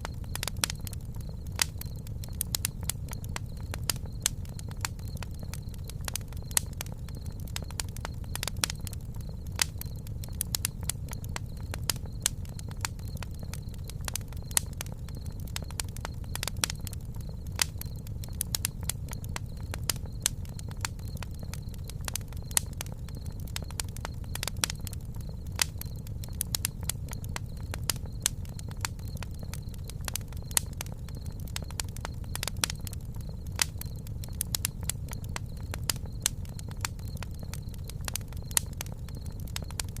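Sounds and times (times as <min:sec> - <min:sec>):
campfire crackling and popping: 0:00.0 - 0:40.0
low rumble of flames: 0:00.0 - 0:40.0.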